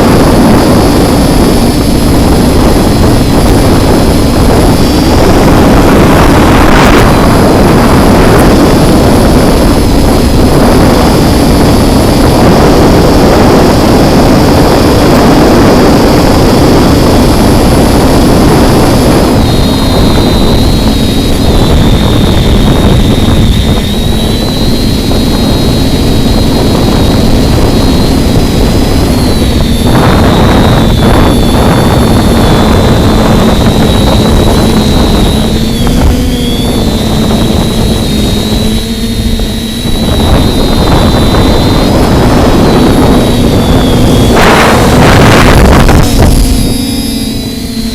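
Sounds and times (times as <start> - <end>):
quadcopter motors whining: 0.0 - 47.9
wind buffeting microphone: 0.0 - 47.9.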